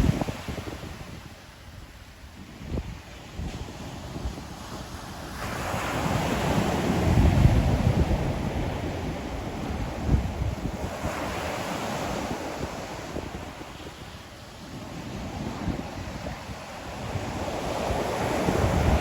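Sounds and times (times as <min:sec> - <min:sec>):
ocean waves breaking on shore: 0:00.0 - 0:19.0
wind buffeting microphone: 0:00.0 - 0:19.0.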